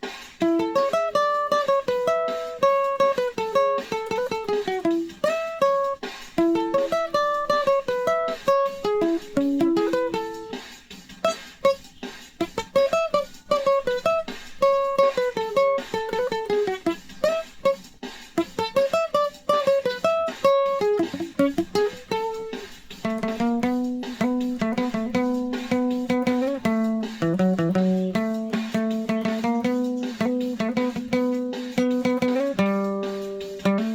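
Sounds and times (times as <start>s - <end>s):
picked guitar melody: 0.0s - 33.9s.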